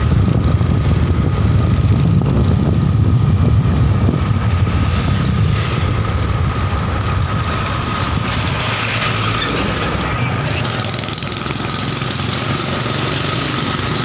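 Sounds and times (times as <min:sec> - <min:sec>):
engines running: 0:00.0 - 0:14.0
wind and road noise: 0:00.0 - 0:14.0.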